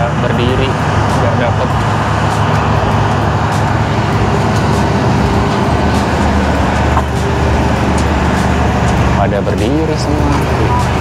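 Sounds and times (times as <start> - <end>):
train machinery humming: 0.0 - 11.0.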